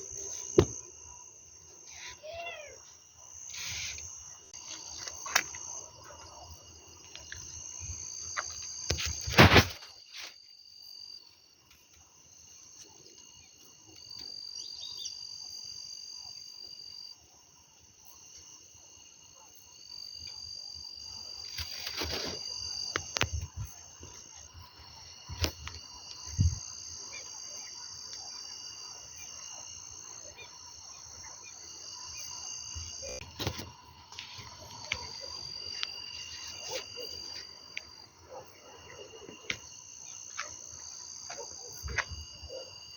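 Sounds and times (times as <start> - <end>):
insects calling: 0.0 - 42.9.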